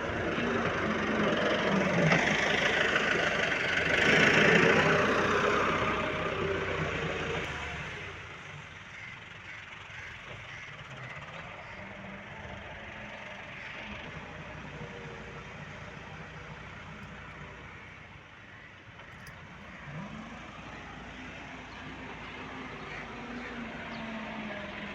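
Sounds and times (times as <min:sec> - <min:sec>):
constant background noise: 0:00.0 - 0:24.9
engine running: 0:00.0 - 0:24.9.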